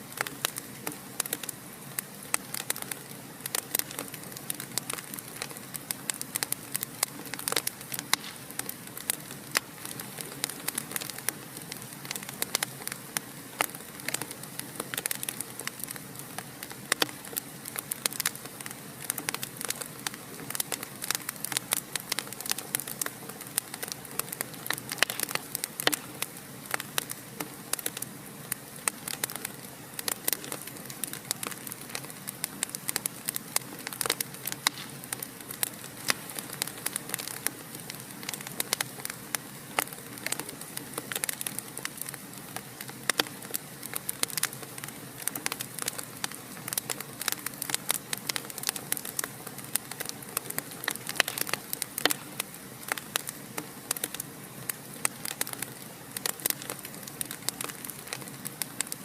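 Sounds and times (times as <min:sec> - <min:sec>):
fire crackling and popping: 0:00.0 - 0:59.0
soft hiss: 0:00.0 - 0:59.0.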